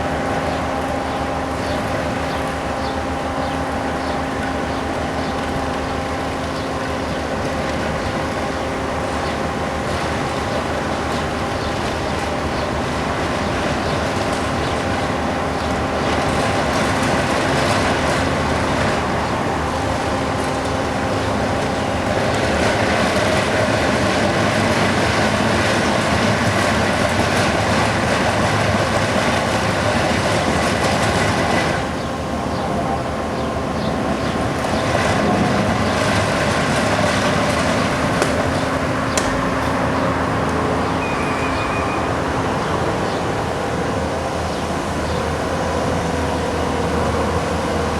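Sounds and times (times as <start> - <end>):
diesel engines at high revs: 0.0 - 47.9
road milling grinding clatter: 0.0 - 47.9.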